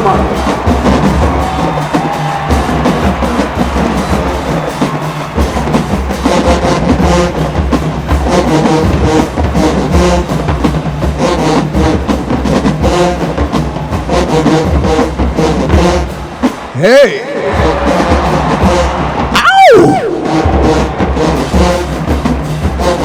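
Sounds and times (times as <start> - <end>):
drum beat: 0.0 - 23.0
marching band playing: 0.0 - 23.0.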